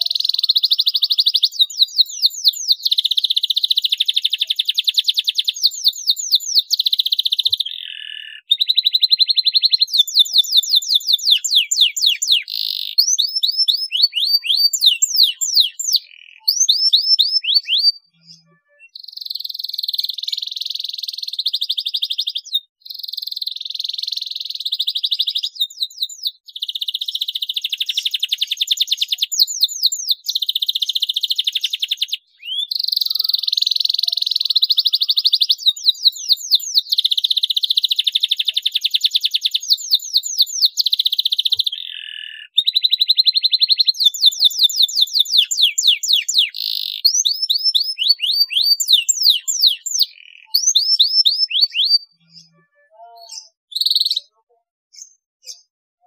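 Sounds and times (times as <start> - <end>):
canary singing trills: 0.0 - 55.7.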